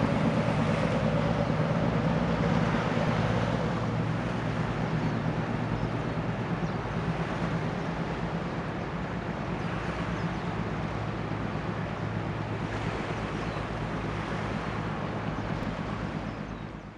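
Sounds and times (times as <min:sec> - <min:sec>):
boat diesel engine droning: 0:00.0 - 0:16.9.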